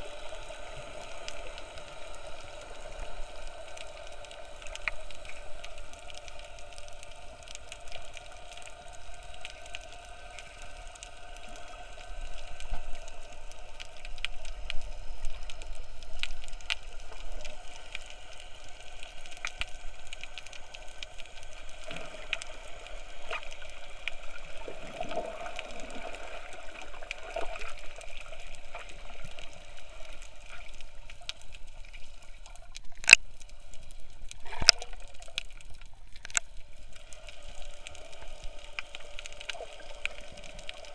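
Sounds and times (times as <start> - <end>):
faint underwater clicks and crackles: 0.0 - 40.9
underwater hum: 0.0 - 40.9.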